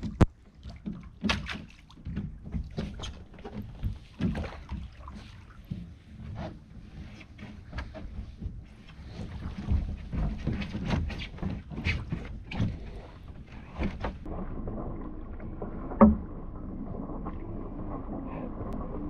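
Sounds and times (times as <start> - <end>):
water slapping against kayak hull: 0.0 - 19.0.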